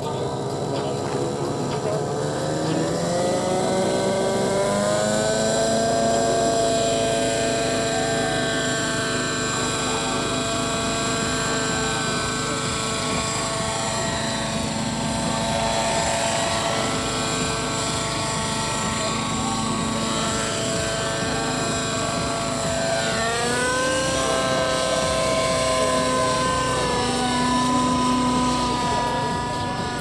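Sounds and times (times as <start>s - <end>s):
model helicopter engine whine: 0.0s - 30.0s.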